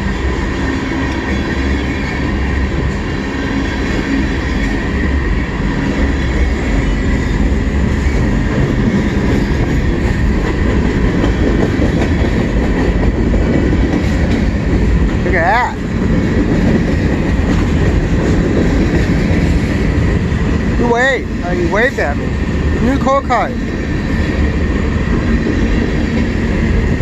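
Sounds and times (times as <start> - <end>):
clickety-clack over rail joints: 0.0 - 27.0
steel wheels rumbling on rails: 0.0 - 27.0.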